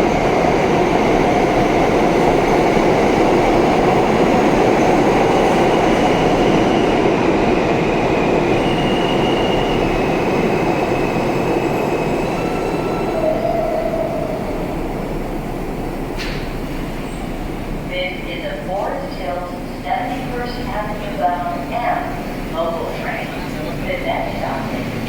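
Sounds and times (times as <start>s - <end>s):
subway train wheels on rail: 0.0s - 25.0s.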